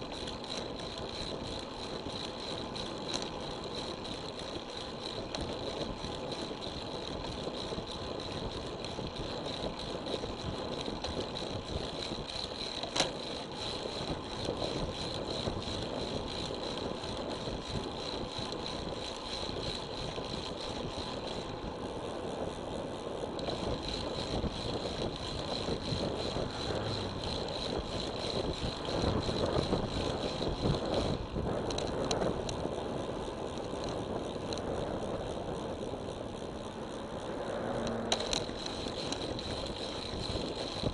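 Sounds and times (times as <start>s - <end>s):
bike rattling: 0.0s - 40.9s.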